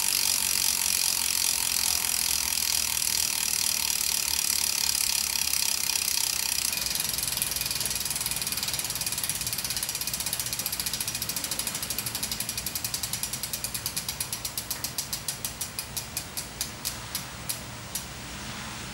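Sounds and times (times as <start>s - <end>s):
bicycle hub freewheel clicking: 0.0s - 18.1s.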